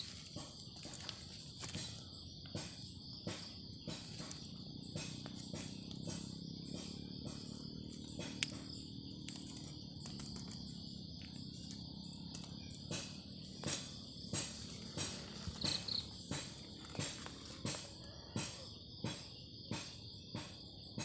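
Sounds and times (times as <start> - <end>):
rustling footsteps on forest floor: 0.0 - 18.4
crickets chirping: 0.0 - 21.0.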